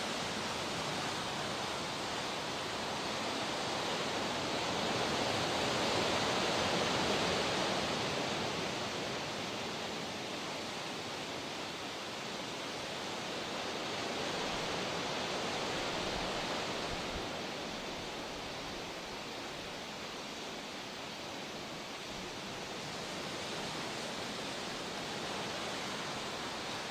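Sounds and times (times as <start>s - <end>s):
water rushing: 0.0s - 26.9s.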